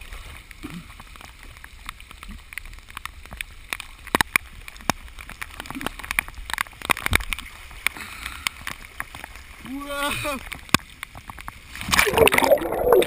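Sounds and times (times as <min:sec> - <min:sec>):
floodwater sloshing and gurgling: 0:00.0 - 0:13.0.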